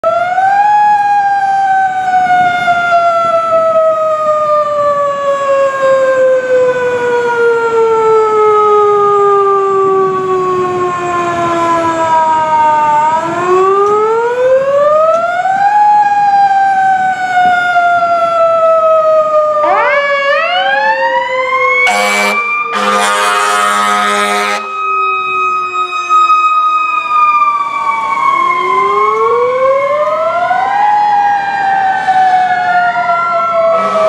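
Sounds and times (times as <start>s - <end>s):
fire engine siren wailing: 0.0s - 34.0s.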